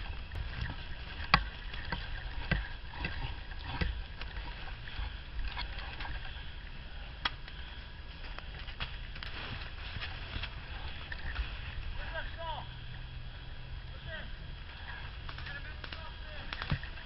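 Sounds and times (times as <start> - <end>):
wind rumble: 0.0 - 17.0.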